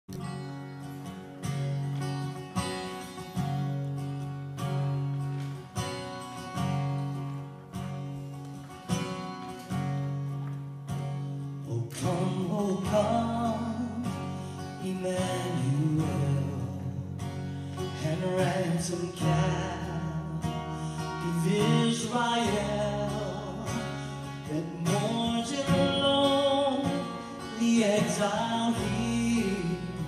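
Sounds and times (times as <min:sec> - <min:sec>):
acoustic guitar strumming chords: 0:00.1 - 0:30.0.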